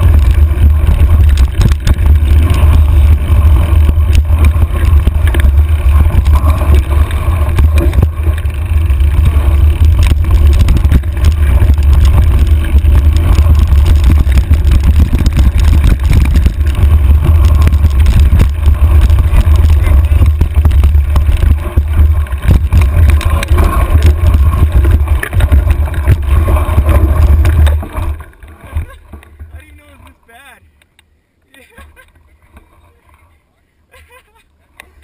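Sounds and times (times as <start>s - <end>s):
wind buffeting microphone: 0.0s - 28.1s
bike clicks and rattles: 0.0s - 30.0s.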